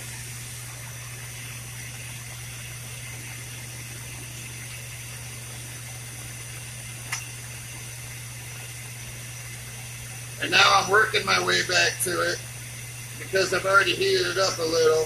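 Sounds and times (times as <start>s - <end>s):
low hum: 0.0s - 15.0s
torch flame hissing: 0.0s - 15.0s.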